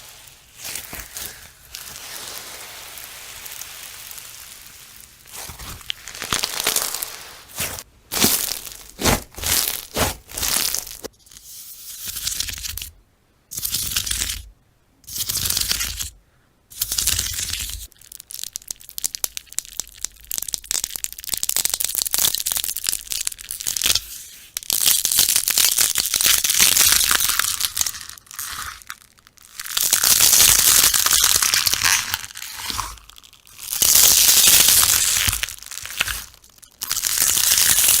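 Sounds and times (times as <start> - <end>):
slime squishing and crackling: 0.0 - 11.1, 17.8 - 38.0.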